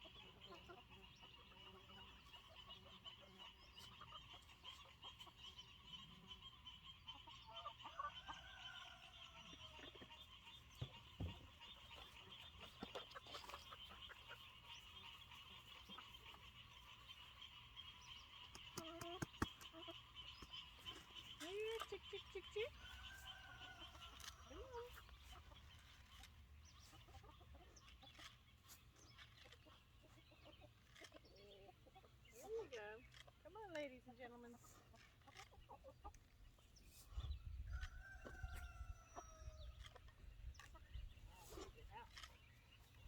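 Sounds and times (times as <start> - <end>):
hens clucking: 0.0 - 43.0.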